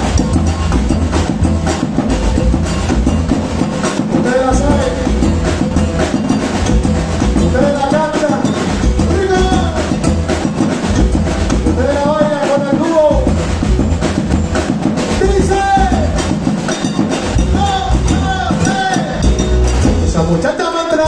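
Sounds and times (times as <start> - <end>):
congas and timbales beat: 0.0 - 21.0
live latin band playing: 0.0 - 21.0.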